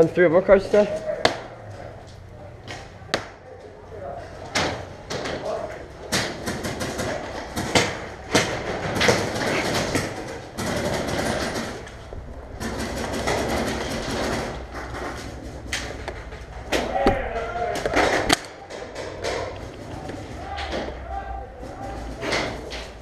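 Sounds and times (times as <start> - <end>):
noisy background: 0.0 - 23.0.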